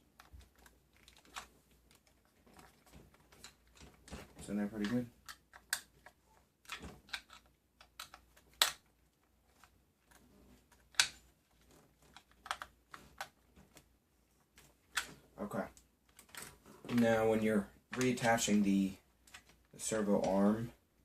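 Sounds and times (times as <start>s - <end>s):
clicks of plastic parts handled: 0.0s - 13.9s, 14.5s - 17.0s, 17.9s - 18.5s, 19.2s - 20.4s.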